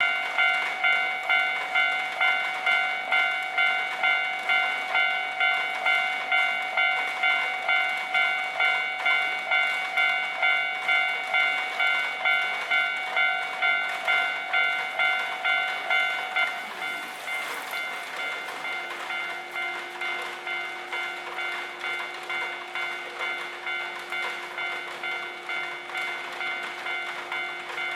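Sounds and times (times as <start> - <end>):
level crossing warning bell: 0.0 - 27.9.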